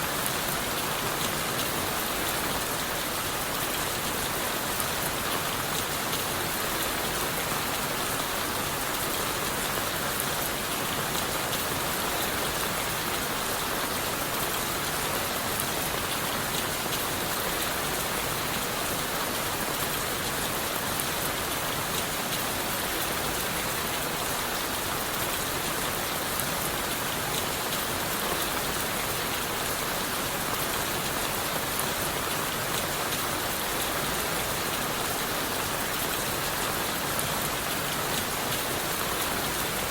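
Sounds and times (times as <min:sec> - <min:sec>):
rain on leaves and wood: 0:00.0 - 0:39.9.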